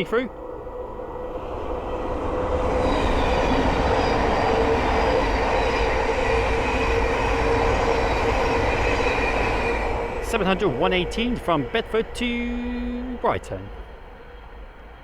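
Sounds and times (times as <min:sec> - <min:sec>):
wheels rushing on rail: 0:00.0 - 0:15.0.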